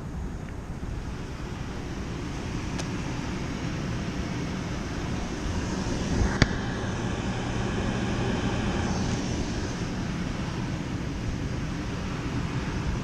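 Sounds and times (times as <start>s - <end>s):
hvac equipment drone: 0.0s - 13.0s.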